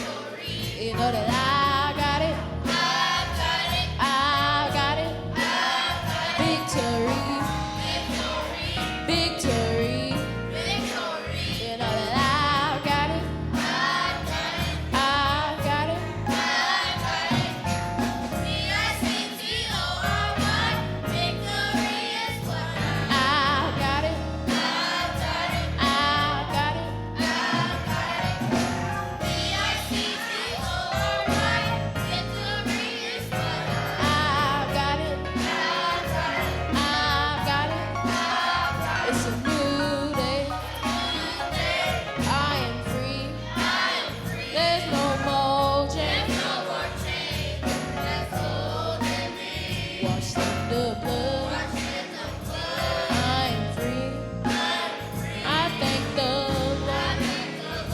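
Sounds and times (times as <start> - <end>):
band accompaniment: 0.0 - 57.9
gospel choir singing: 0.0 - 57.9.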